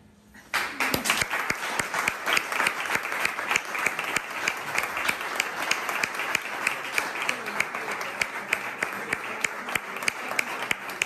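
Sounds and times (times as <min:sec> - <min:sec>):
audience clapping: 0:00.5 - 0:11.0.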